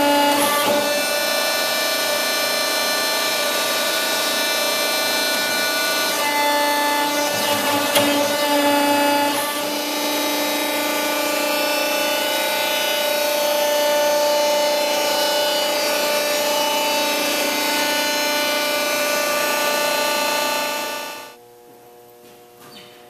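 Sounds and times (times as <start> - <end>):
hydraulic power unit whine: 0.0 - 22.4.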